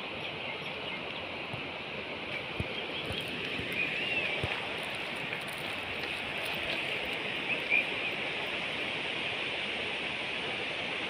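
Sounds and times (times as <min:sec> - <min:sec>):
outdoor nature ambience hiss: 0:00.0 - 0:11.0.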